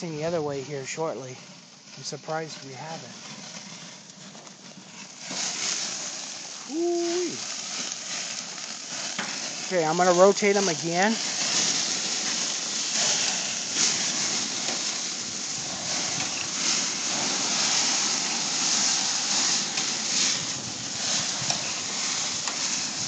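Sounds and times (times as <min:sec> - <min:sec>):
patties sizzling on a grill: 0:00.0 - 0:23.0.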